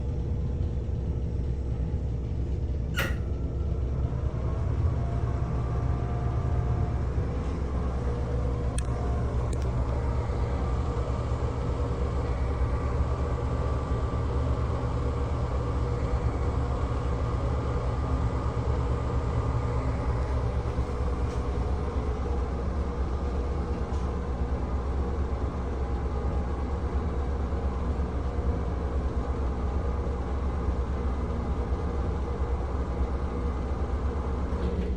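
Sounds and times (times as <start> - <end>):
exhaust fan humming and whining: 0.0 - 34.9.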